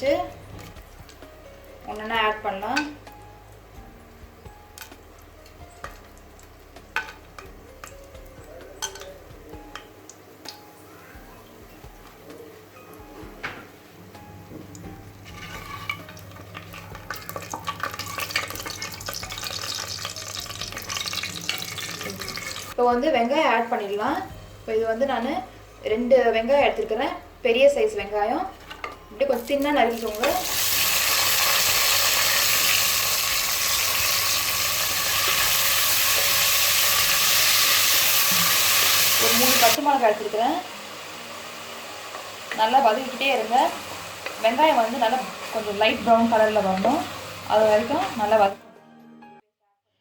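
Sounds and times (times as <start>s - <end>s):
spices sizzling in hot oil: 0.0s - 10.9s, 13.8s - 25.8s, 27.8s - 48.6s.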